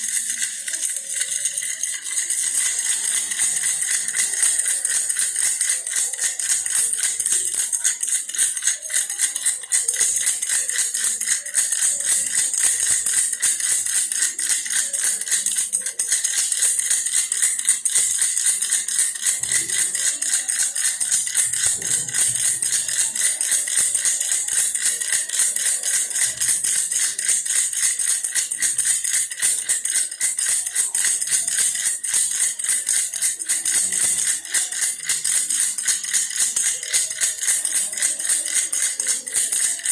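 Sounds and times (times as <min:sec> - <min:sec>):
toy rattle shaken: 0:00.0 - 0:39.9.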